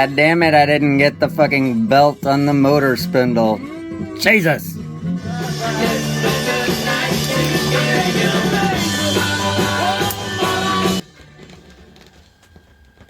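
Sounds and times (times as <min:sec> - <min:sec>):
rock music with singing: 0:00.0 - 0:11.6.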